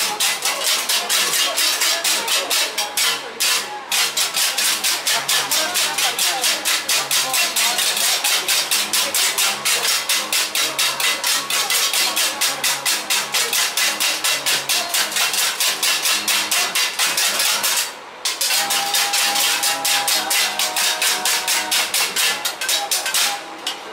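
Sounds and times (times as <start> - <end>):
folk percussion clacking: 0.0 - 23.9.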